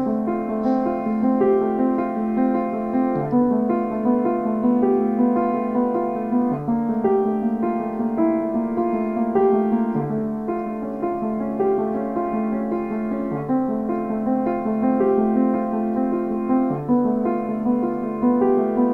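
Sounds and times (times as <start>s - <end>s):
piano playing slow chords: 0.0s - 18.9s.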